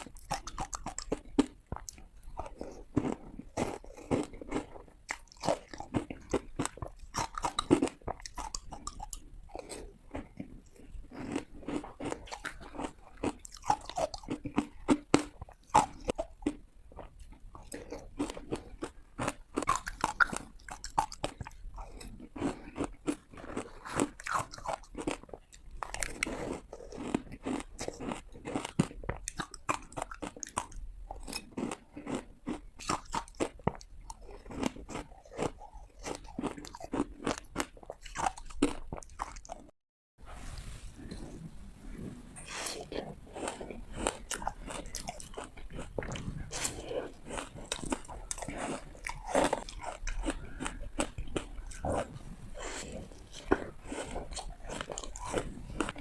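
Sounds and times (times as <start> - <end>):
person chewing: 0.0 - 39.7, 42.0 - 56.0.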